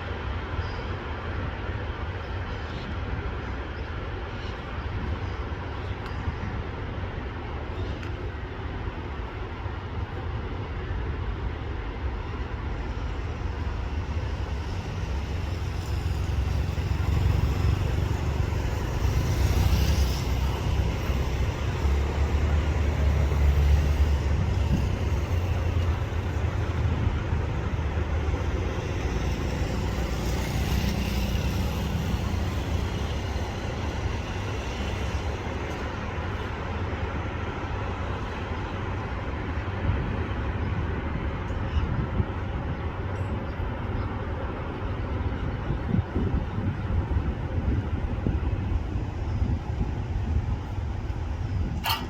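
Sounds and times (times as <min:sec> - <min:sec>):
diesel railcar rumbling: 0:00.0 - 0:52.0.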